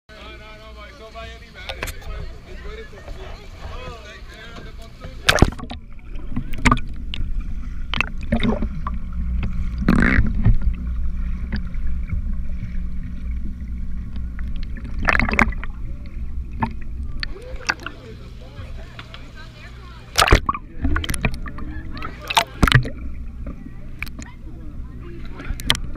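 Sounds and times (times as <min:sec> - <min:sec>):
underwater low rumble and hum: 0:00.1 - 0:25.9
underwater bubbling: 0:01.4 - 0:25.9.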